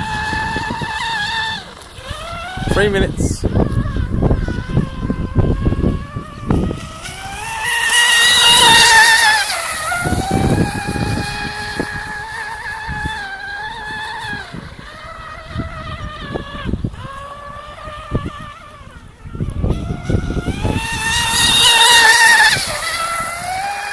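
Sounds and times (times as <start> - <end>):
model boat motor whine: 0.0 - 23.9.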